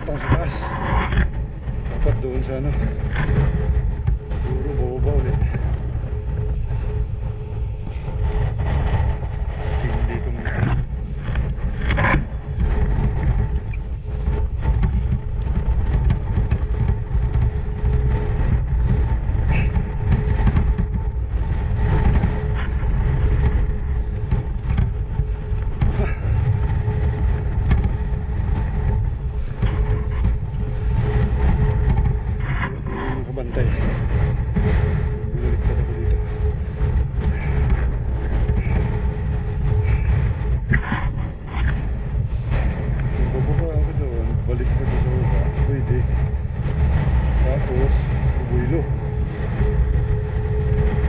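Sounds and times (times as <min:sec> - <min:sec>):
motorcycle engine rumbling: 0:00.0 - 0:51.0
knocks and rattles: 0:07.6 - 0:49.7.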